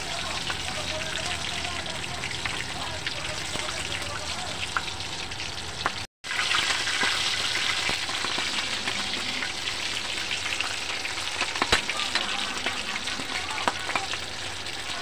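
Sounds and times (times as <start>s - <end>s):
meat deep-frying in oil: 0.0s - 15.0s.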